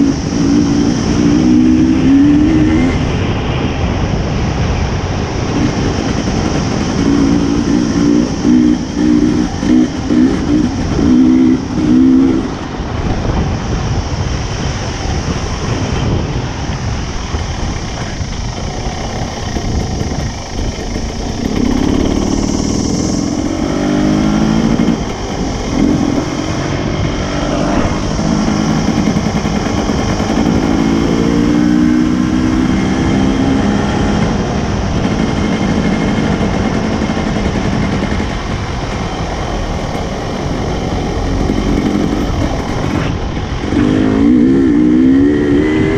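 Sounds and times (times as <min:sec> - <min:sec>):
dirt bike engine accelerating: 0:00.0 - 0:45.9.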